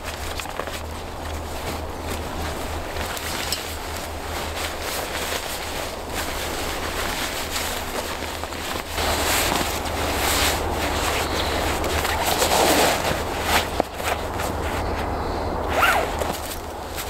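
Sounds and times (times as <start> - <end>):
nylon fabric rustling: 0.0 - 17.0.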